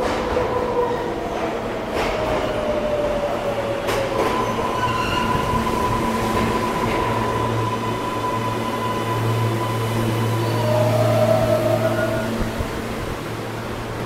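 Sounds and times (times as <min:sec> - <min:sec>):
subway train brake whine: 0:00.0 - 0:14.0
train cars rumbling: 0:00.0 - 0:14.0.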